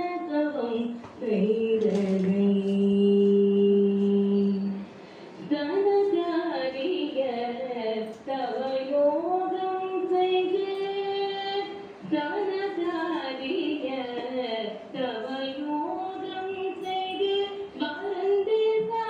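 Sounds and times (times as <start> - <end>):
woman singing: 0.0 - 4.8, 5.4 - 19.0.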